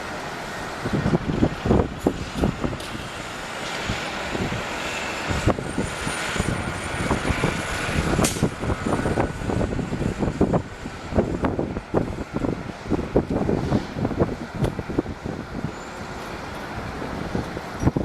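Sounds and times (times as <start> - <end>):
jet engines roaring: 0.0 - 18.0
wind thumping on microphone: 0.8 - 18.0.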